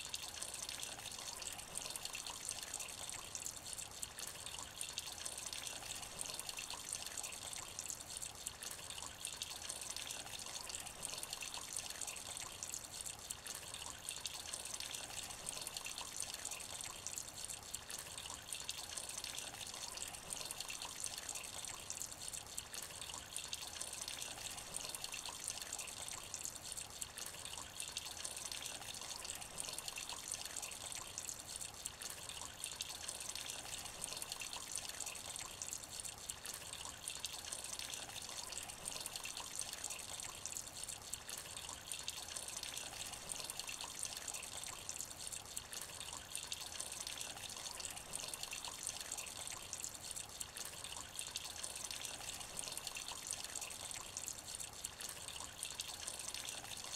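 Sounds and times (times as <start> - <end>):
light rain falling into a puddle: 0.0 - 56.9.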